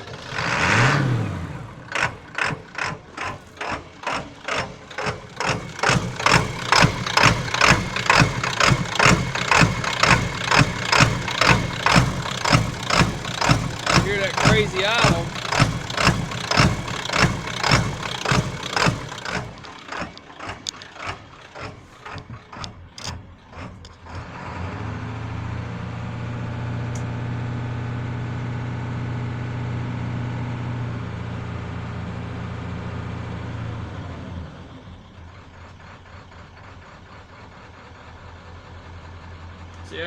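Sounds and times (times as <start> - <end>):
diesel engine rough idle: 0.0 - 40.0.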